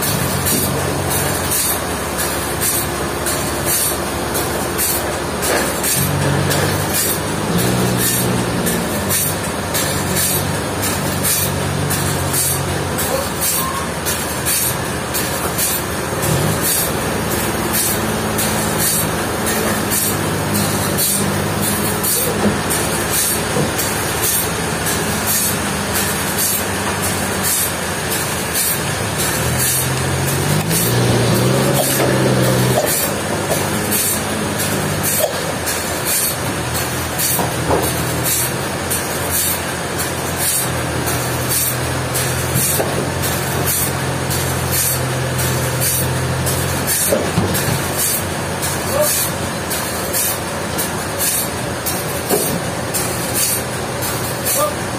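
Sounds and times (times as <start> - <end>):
sawmill machinery hum: 0.0 - 54.9.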